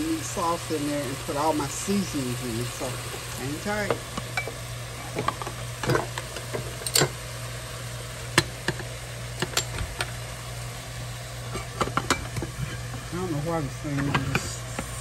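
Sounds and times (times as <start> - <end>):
meat sizzling in a pot: 0.0 - 15.0.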